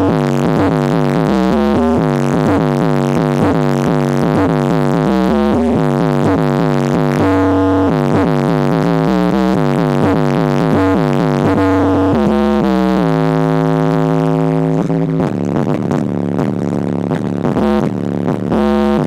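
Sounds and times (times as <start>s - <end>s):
bass-heavy electronic music: 0.0s - 19.0s.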